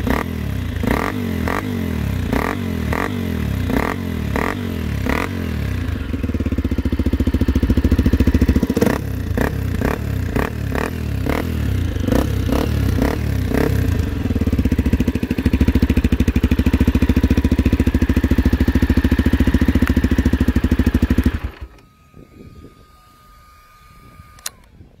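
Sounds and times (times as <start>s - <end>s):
dirt bike engine revving and idling: 0.0s - 21.8s.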